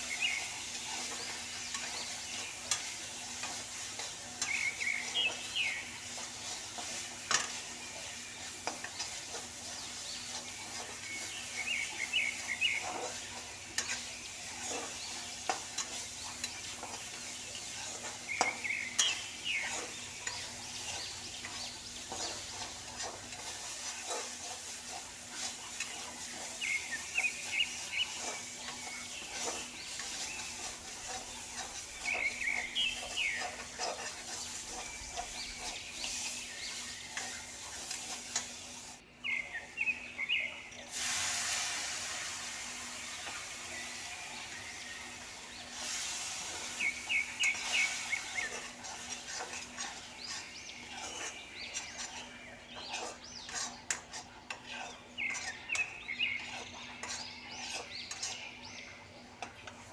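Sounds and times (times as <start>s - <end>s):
metal spatula scraping pan: 0.0s - 39.0s, 40.9s - 59.9s
onions sizzling in oil: 0.0s - 59.9s.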